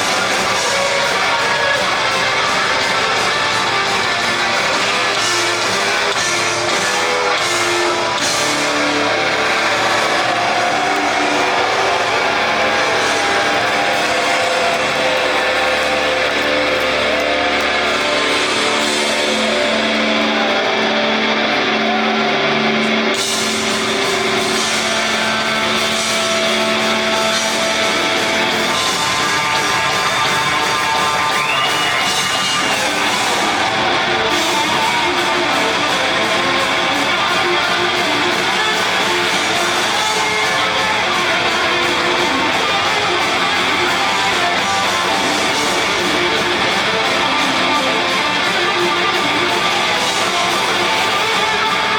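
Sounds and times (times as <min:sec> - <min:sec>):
rock music with guitar: 0:00.0 - 0:51.9.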